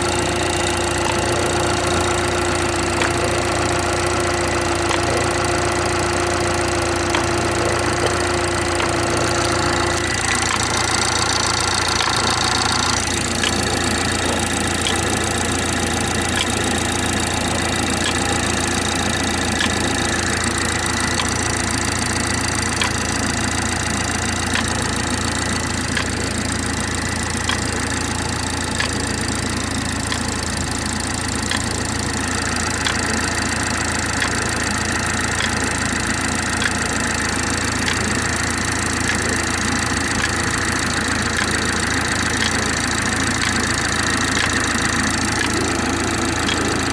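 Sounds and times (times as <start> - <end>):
car engine idling: 0.0 - 46.9
sharp engine tick: 0.0 - 46.9
steady whine: 0.0 - 46.9.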